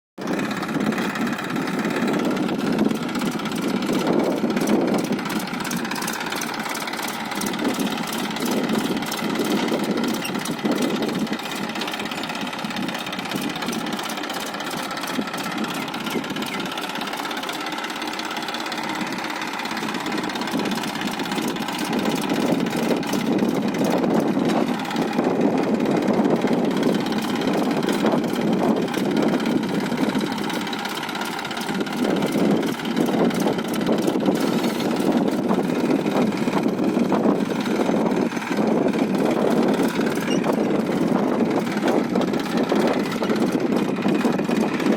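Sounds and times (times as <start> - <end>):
tractor diesel engine running: 0.2 - 44.9.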